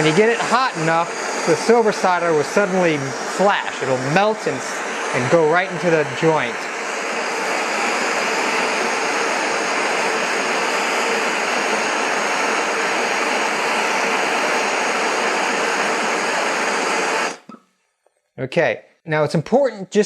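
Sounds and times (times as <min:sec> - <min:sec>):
gas torch hissing: 0:00.0 - 0:17.6.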